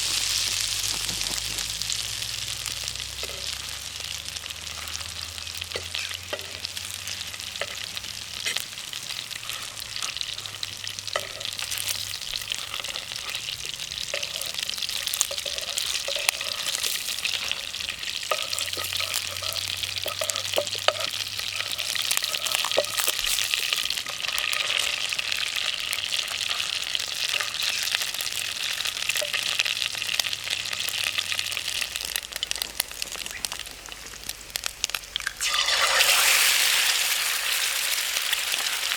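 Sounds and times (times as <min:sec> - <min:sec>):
campfire crackling and hissing: 0:00.0 - 0:38.9.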